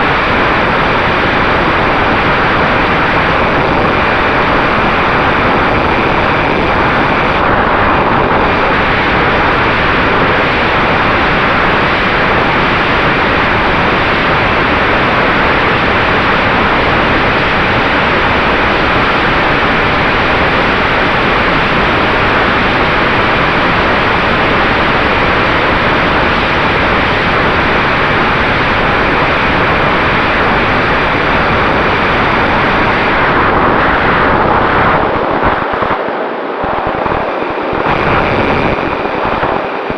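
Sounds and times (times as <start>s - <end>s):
wind rushing on microphone: 0.0s - 39.9s.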